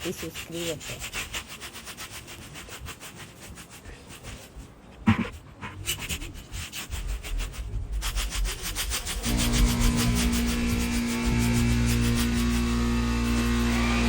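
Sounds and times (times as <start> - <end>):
dry leaves being scraped: 0.0 - 4.9, 5.8 - 14.0.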